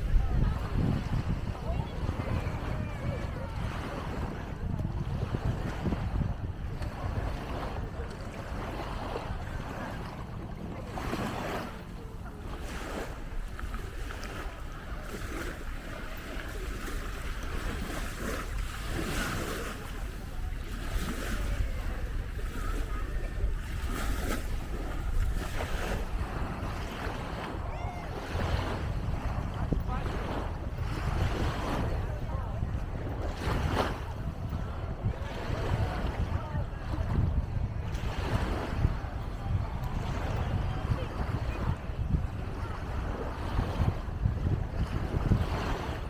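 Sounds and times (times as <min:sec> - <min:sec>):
sea waves washing on shore: 0:00.0 - 0:46.0
wind buffeting microphone: 0:00.0 - 0:46.0.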